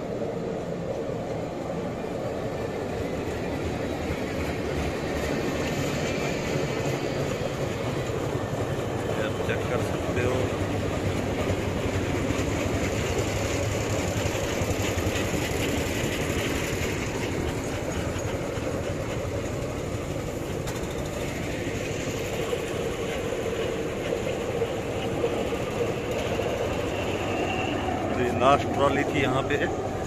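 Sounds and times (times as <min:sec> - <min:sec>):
wheels rolling on rails: 0:00.0 - 0:30.0.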